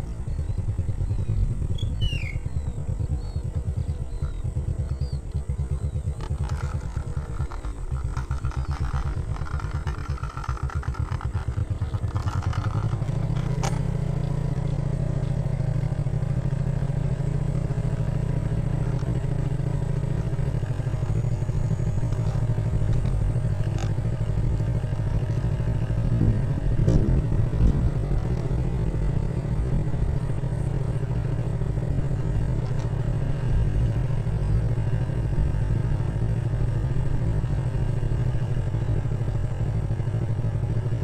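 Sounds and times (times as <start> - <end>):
small motorcycle engine running: 0.0 - 41.0.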